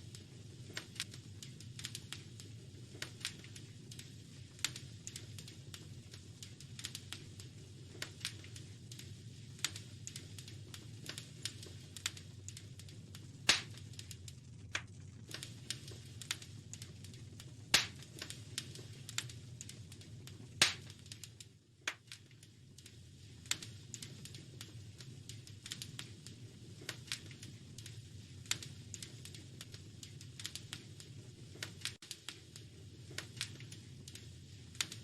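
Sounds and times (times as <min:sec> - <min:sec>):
fire pops: 0:00.0 - 0:35.0
low steady rumble: 0:00.0 - 0:35.0
wood fire crackling: 0:00.0 - 0:35.0.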